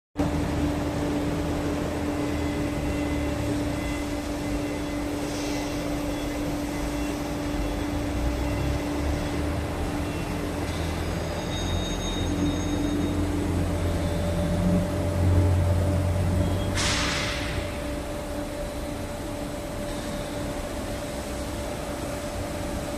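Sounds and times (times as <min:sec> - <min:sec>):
factory machinery hum: 0:00.2 - 0:22.9.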